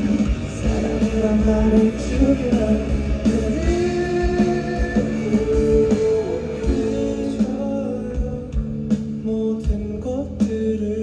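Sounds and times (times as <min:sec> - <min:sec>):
drum beat: 0:00.0 - 0:10.0
live rock band music: 0:00.0 - 0:11.0.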